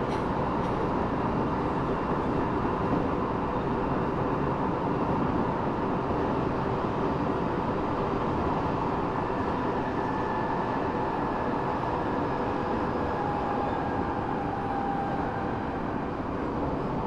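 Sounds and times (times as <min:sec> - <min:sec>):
subway car rumble and rail noise: 0:00.0 - 0:17.0.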